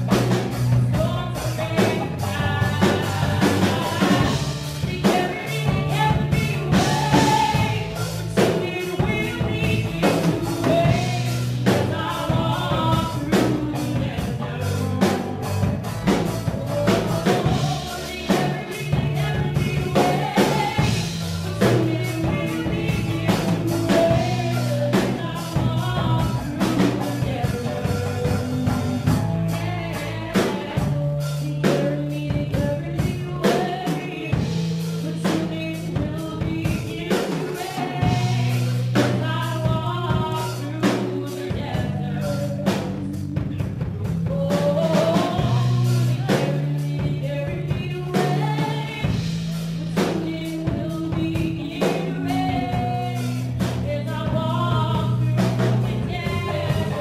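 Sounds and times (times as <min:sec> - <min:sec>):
bass guitar: 0:00.0 - 0:57.0
drum kit beat: 0:00.0 - 0:57.0
electric guitar: 0:00.0 - 0:57.0
women singing: 0:00.0 - 0:57.0.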